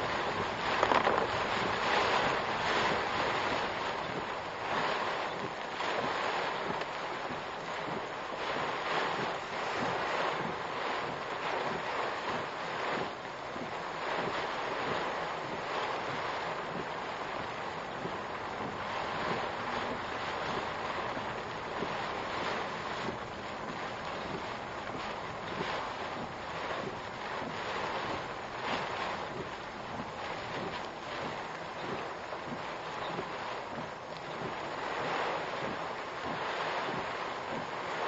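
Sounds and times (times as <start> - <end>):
wind gusting against vehicle: 0.0 - 38.0.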